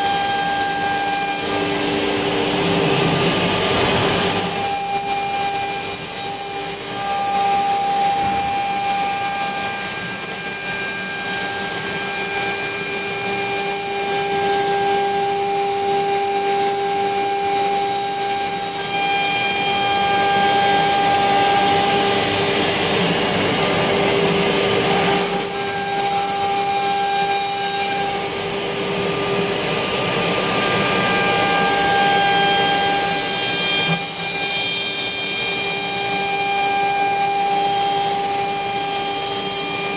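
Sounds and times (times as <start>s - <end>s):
router spindle whining cutting wood: 0.0s - 39.9s.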